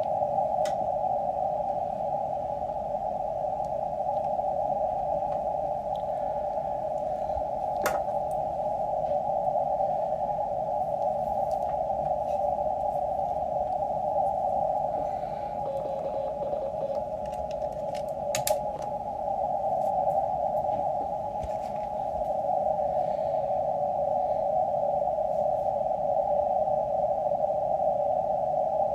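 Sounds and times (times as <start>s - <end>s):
radio receiver hiss: 0.0s - 24.3s.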